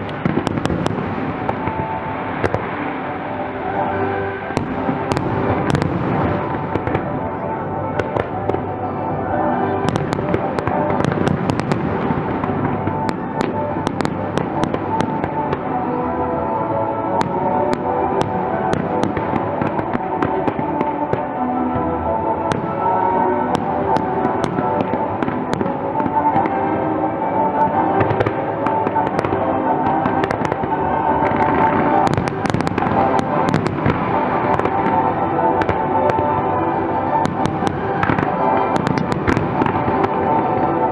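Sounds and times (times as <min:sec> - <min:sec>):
fireworks bangs and crackling: 0:00.0 - 0:40.9
music playing: 0:00.0 - 0:40.9.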